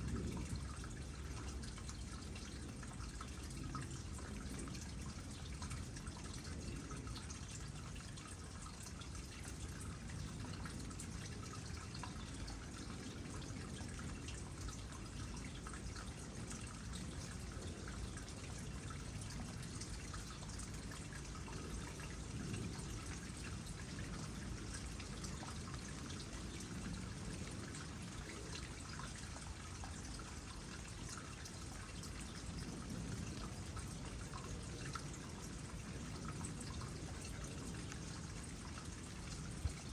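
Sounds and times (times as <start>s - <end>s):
water dripping: 0.0s - 39.9s
water trickling into pond: 0.0s - 39.9s.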